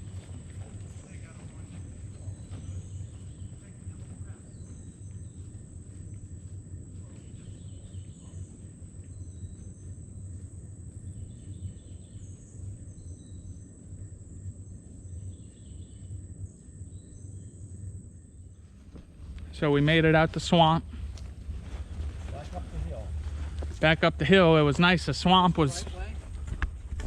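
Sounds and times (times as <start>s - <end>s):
low microphone rumble: 0.0s - 27.0s.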